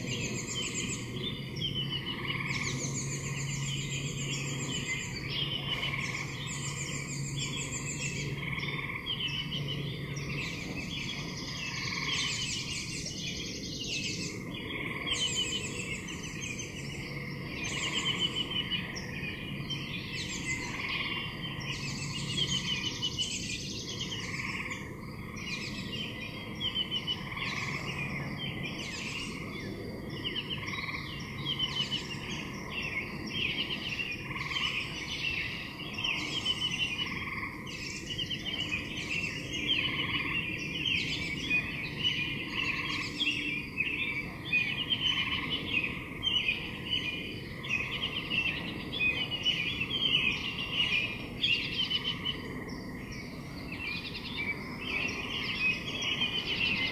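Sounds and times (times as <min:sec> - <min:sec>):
frogs croaking: 0:00.0 - 0:56.9.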